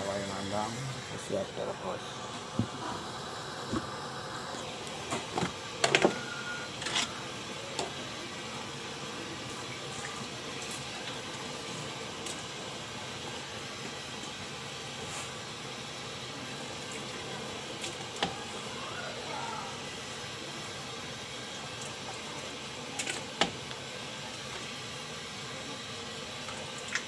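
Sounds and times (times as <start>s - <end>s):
pot of water hissing: 0.0s - 27.0s.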